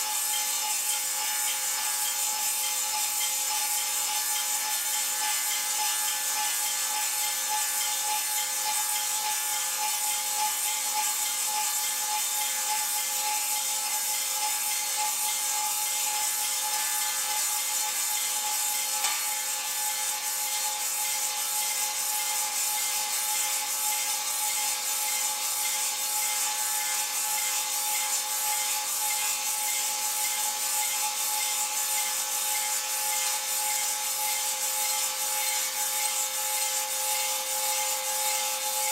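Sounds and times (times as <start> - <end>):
table saw cutting wood: 0.0 - 38.9.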